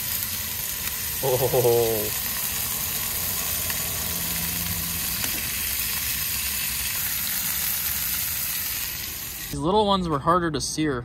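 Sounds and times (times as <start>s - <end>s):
scallops sizzling in frying pan: 0.0s - 9.6s.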